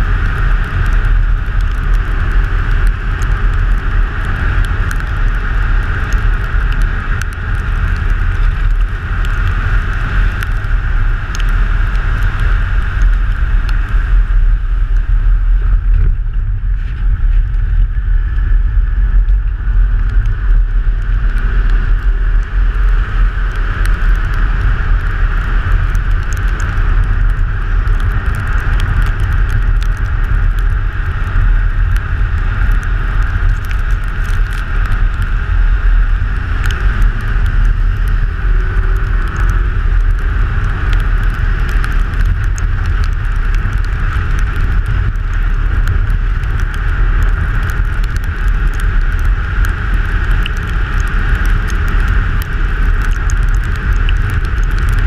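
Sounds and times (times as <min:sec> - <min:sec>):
rally car driving at speed: 0:00.0 - 0:55.0.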